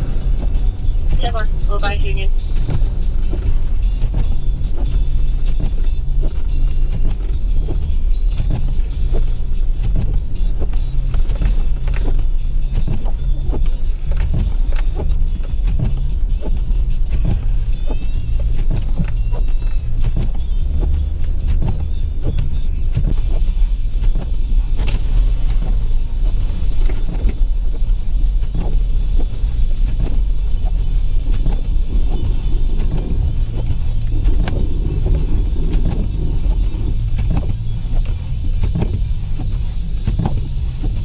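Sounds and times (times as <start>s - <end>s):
engine and road rumble: 0.0s - 41.0s.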